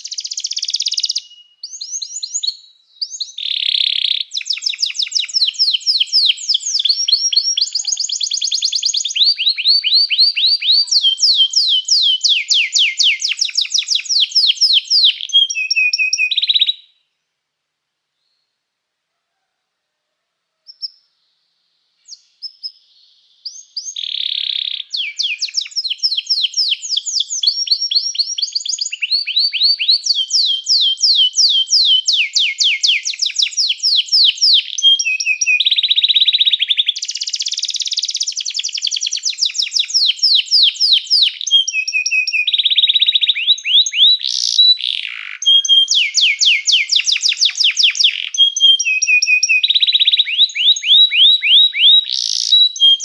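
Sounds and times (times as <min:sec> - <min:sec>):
canary singing trills: 0:00.0 - 0:16.9, 0:22.0 - 0:53.0.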